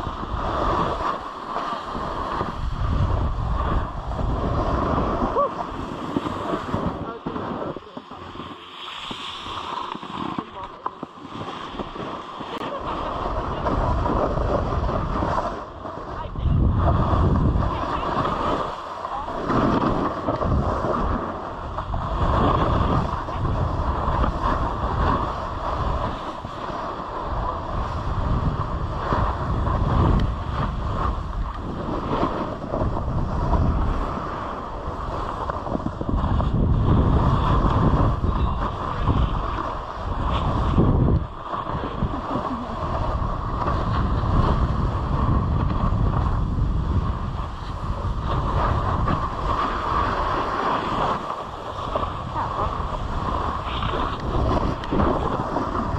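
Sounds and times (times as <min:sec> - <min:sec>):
snowboard scraping over snow: 0:00.0 - 0:55.9
wind buffeting microphone: 0:00.0 - 0:55.9.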